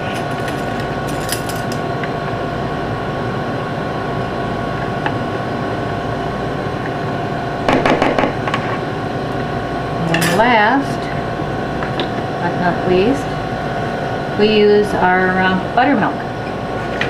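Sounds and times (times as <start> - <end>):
kitchen machinery humming: 0.0 - 17.0.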